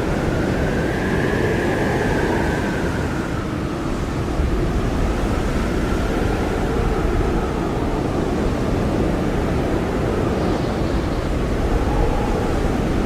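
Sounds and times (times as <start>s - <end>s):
blizzard wind howling: 0.0s - 13.0s.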